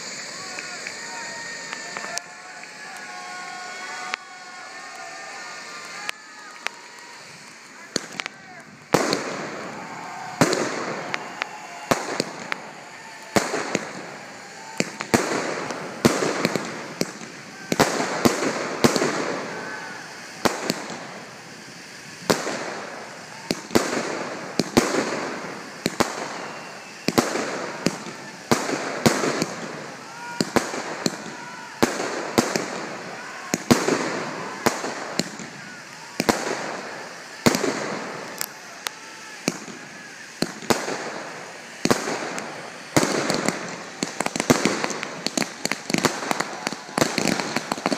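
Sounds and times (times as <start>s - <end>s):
fireworks bursting with bangs: 0.0s - 47.9s
fireworks hiss: 0.0s - 47.9s.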